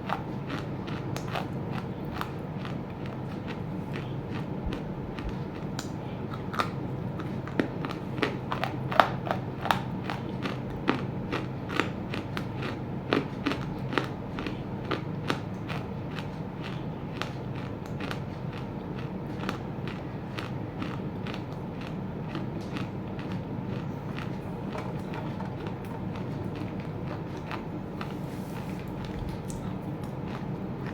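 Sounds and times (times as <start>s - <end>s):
clay chunks crunching between teeth: 0.0s - 28.2s
steady low hum: 0.0s - 30.9s.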